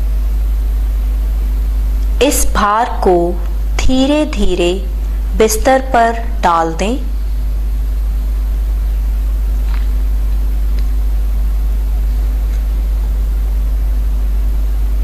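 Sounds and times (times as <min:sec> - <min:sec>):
low hum: 0:00.8 - 0:15.0.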